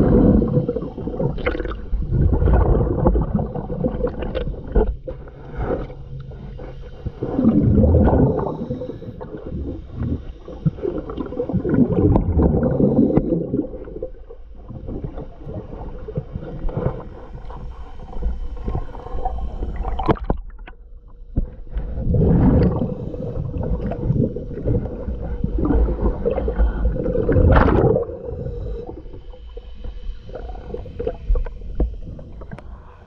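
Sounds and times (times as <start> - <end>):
underwater breath bubbles: 0.0 - 20.3, 21.5 - 33.0
faint steady hum: 0.0 - 33.0.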